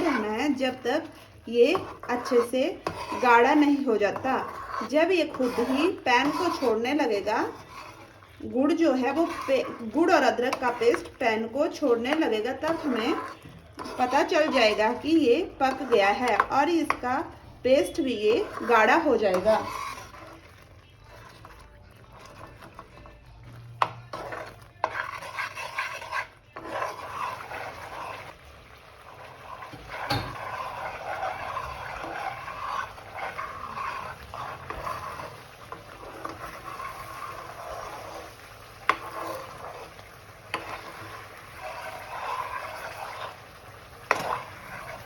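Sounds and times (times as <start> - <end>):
spoon scraping thick paste in pan: 0.0 - 45.0.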